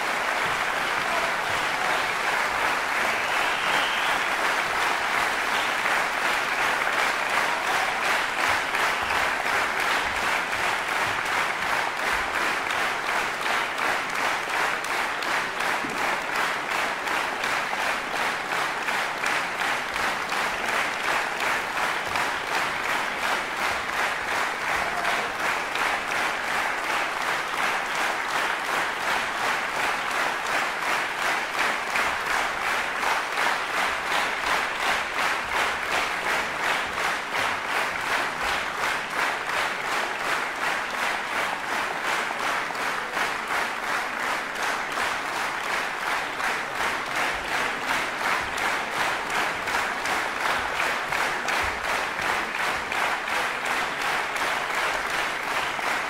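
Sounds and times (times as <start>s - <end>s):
audience applauding: 0.0s - 56.0s
rhythmic clapping in unison: 0.0s - 56.0s.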